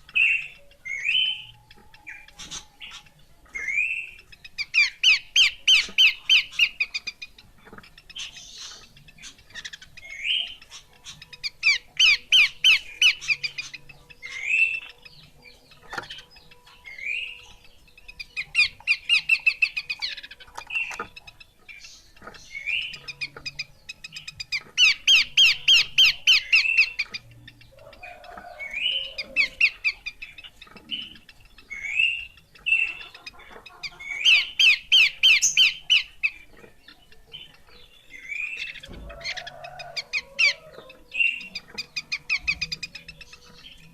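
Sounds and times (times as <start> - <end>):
bird harsh chattering: 0.0 - 43.9.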